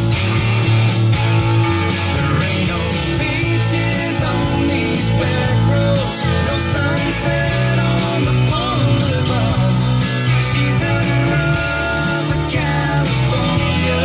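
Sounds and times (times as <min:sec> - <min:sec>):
rock music on car radio: 0:00.0 - 0:14.0.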